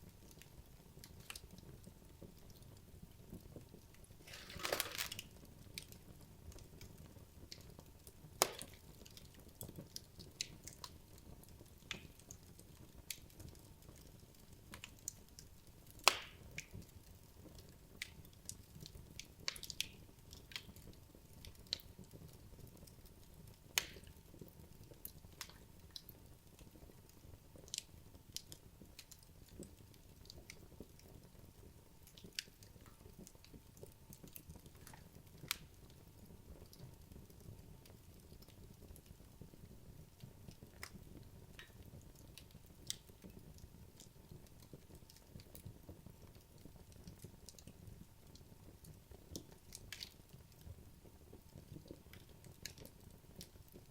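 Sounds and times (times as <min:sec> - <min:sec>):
logs crackling and popping in fire: 0:00.0 - 0:53.9.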